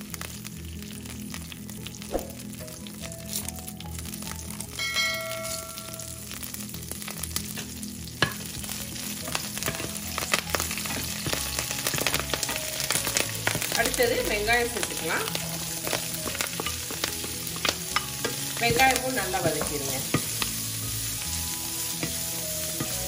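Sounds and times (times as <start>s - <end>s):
spices sizzling in hot oil: 0.0s - 23.0s.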